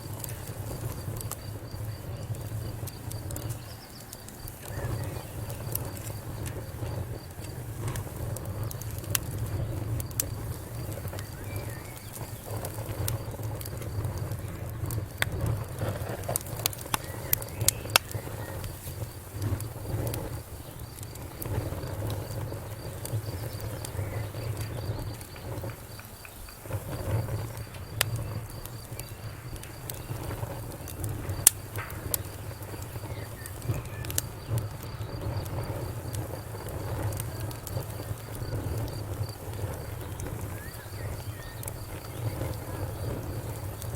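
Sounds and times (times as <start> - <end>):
fire crackling and popping: 0.0 - 43.9
fire rumbling: 0.0 - 43.9.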